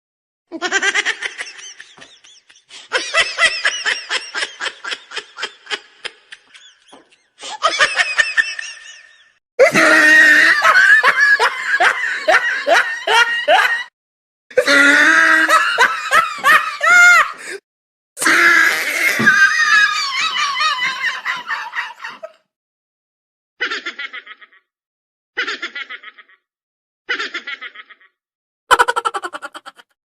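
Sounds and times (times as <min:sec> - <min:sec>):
recorded laugh sound effects: 0:00.5 - 0:13.9, 0:14.6 - 0:17.6, 0:18.8 - 0:22.5, 0:23.6 - 0:24.7, 0:25.4 - 0:26.5, 0:27.1 - 0:30.0.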